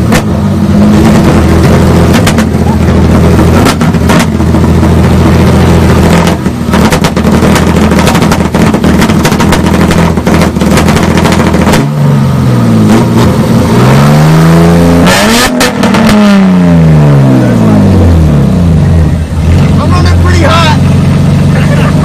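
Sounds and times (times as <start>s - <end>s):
car engines revving: 0.0s - 22.0s
exhaust popping and crackling: 0.0s - 22.0s.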